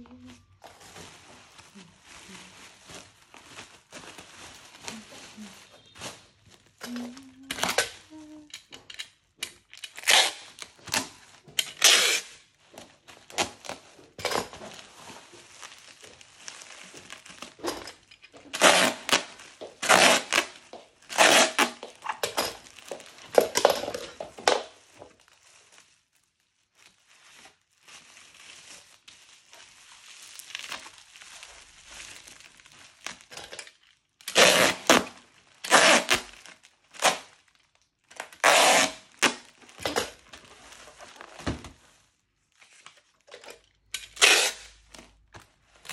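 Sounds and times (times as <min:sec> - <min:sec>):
plastic packaging crinkling and tearing: 0:00.0 - 0:45.9.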